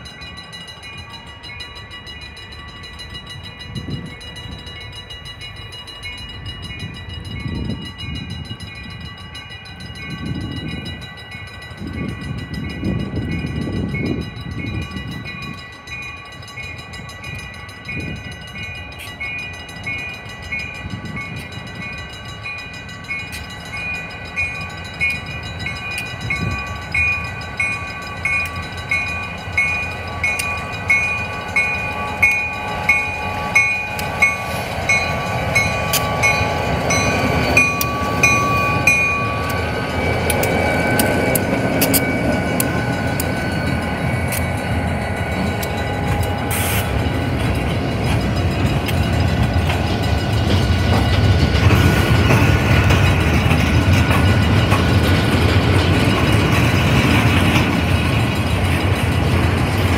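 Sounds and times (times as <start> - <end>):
bell ringing: 0.0 - 59.9
diesel locomotive engine: 0.0 - 59.9
train wheels rolling past: 10.3 - 59.9.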